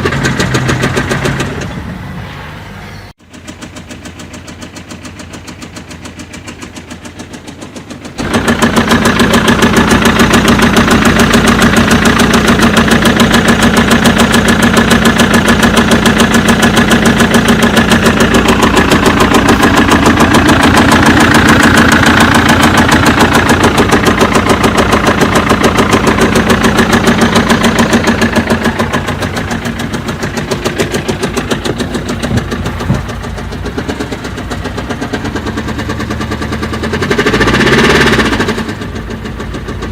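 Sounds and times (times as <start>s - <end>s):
diesel engine with rapid tapping: 0.0s - 39.9s.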